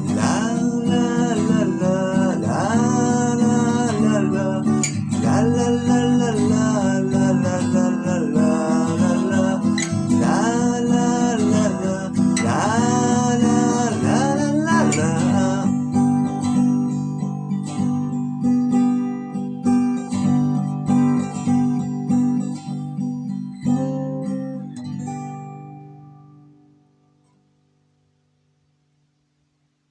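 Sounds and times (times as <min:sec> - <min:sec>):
acoustic guitar strummed and picked: 0:00.0 - 0:29.6.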